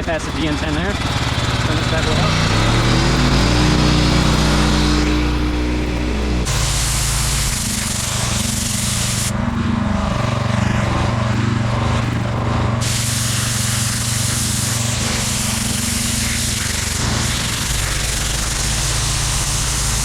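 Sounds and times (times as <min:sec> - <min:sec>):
pressure washer engine running: 0:00.0 - 0:20.0
water spraying with loud hiss: 0:00.0 - 0:20.0.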